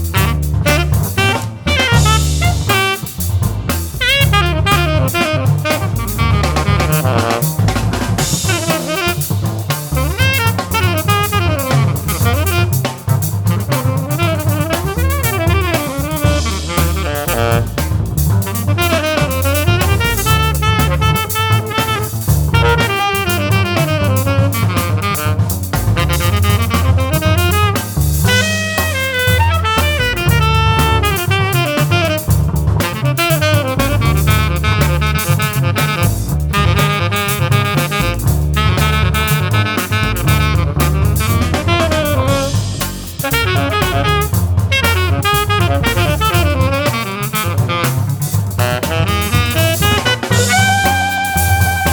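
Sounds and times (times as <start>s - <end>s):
drum kit: 0.0s - 51.9s
saxophone playing jazz: 0.0s - 51.9s.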